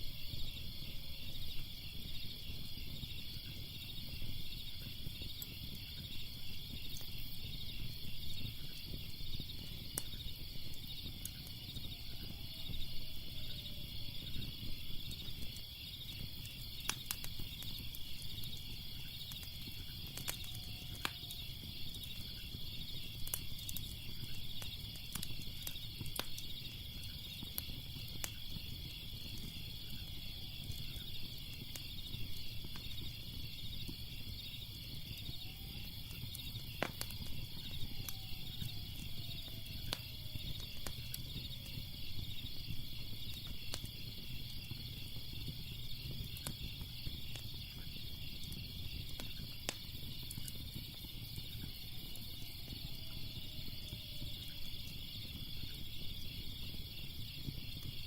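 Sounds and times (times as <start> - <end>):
crickets chirping: 0.0 - 58.0
wood fire crackling and popping: 0.0 - 58.0.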